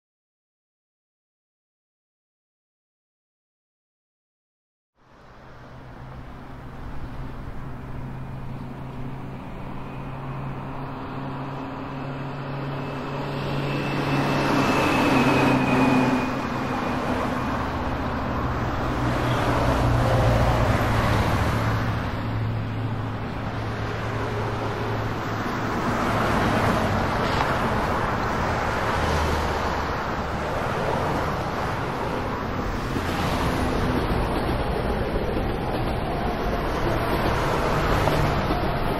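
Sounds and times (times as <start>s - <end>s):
vehicles passing: 5.0s - 38.9s.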